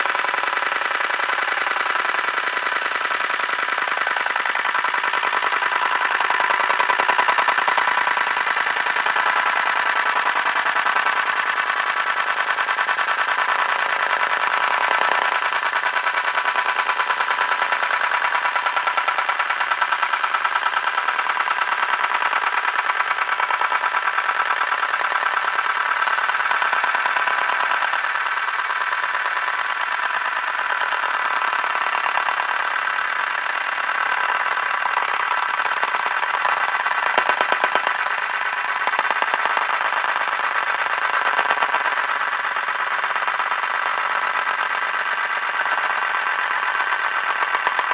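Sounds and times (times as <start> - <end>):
rotating mechanism whirring: 0.0 - 47.9.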